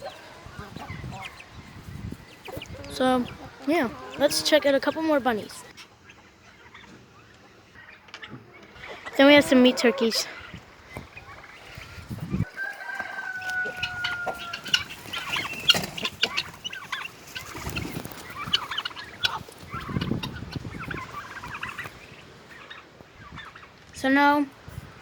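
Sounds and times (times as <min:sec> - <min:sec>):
chickens and turkeys clucking: 0:00.0 - 0:25.0.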